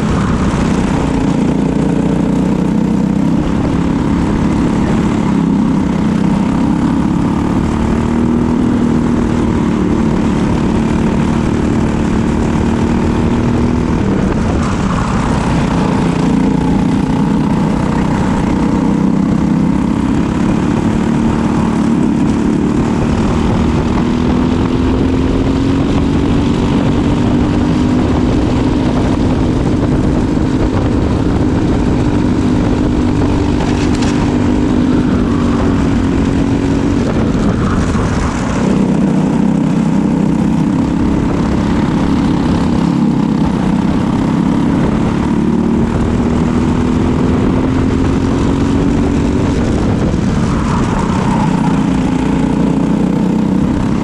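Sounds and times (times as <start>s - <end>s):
kart engine racing: 0.0s - 54.0s.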